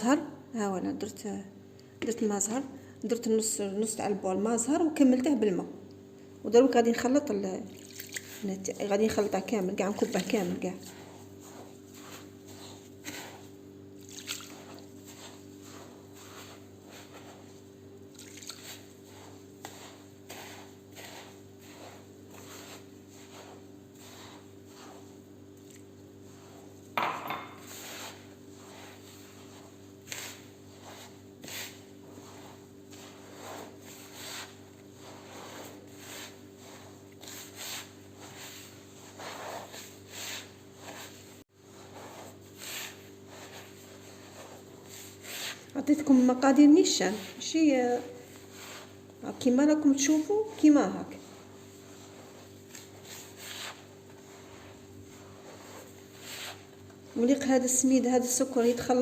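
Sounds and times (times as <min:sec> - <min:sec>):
hands squishing wet dough: 0:07.5 - 0:27.0, 0:27.6 - 0:59.0.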